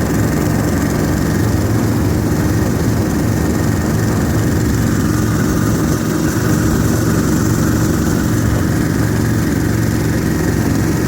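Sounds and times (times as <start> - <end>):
snowmobile diesel engine running: 0.0 - 11.0.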